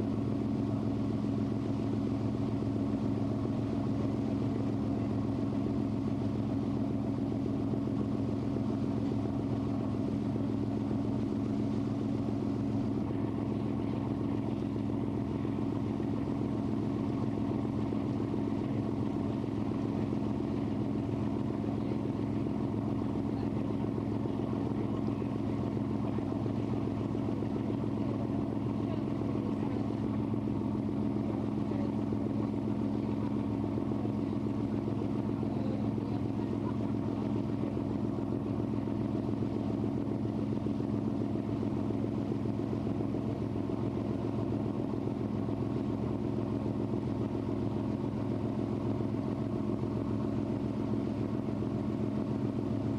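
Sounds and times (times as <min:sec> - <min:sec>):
boat engine droning: 0:00.0 - 0:52.9
water noise: 0:00.0 - 0:52.9.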